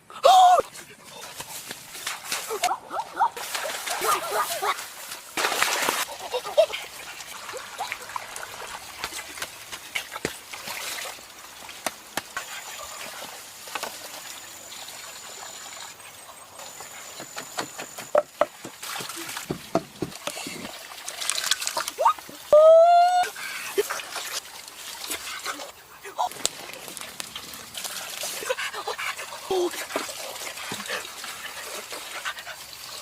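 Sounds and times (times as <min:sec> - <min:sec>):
water trickling and splashing: 0:00.6 - 0:33.0.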